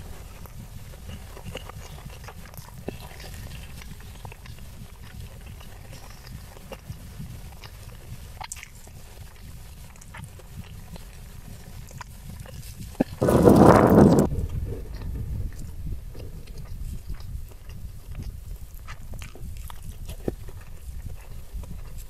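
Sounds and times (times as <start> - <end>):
chewing with wet mouth clicks: 0.0 - 13.3, 14.2 - 22.0.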